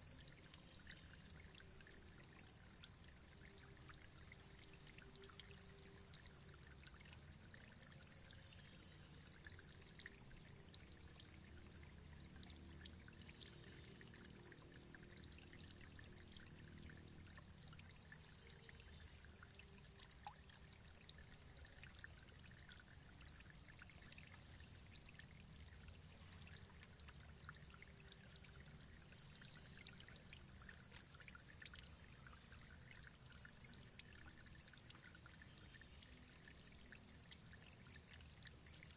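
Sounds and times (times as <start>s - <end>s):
trickling stream: 0.0s - 38.9s.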